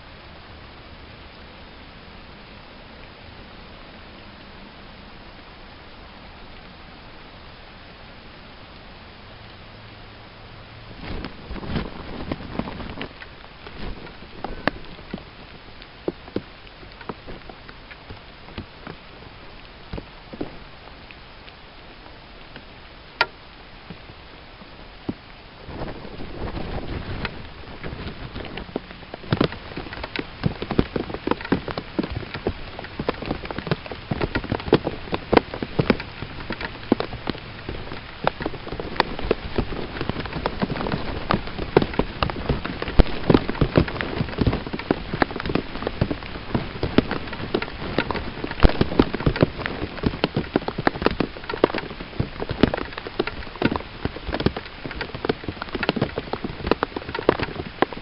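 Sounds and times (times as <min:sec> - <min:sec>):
rain drops tapping: 0:00.0 - 0:58.0.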